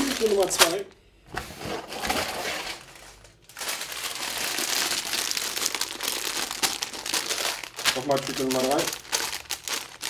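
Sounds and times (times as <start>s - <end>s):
plastic bags crinkling: 0.0s - 1.0s, 1.8s - 10.0s.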